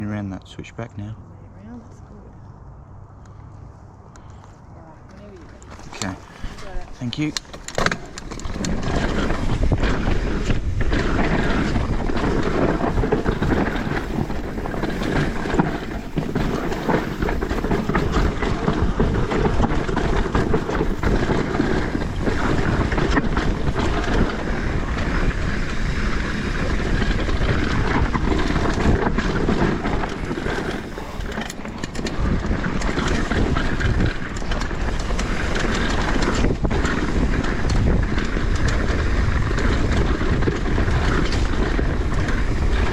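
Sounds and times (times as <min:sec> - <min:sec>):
wind buffeting microphone: 0:00.0 - 0:42.9
bike tyres rolling on dirt: 0:03.7 - 0:42.9
bike knocks and rattles: 0:05.2 - 0:42.9.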